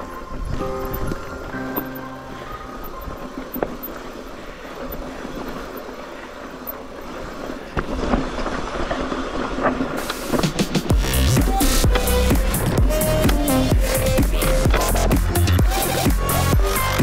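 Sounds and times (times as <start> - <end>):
bike tyre rumble and rattling: 0.0 - 17.0.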